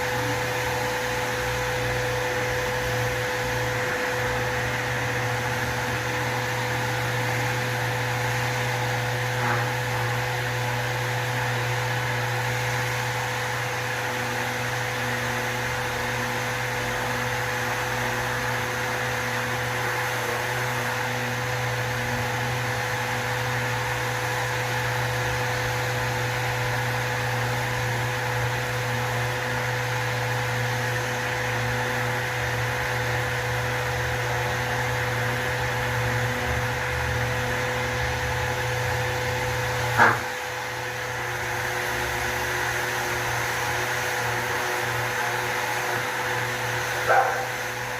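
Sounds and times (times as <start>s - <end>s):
orbital sander whining: 0.0s - 47.9s
vacuum dust extractor running: 0.0s - 47.9s.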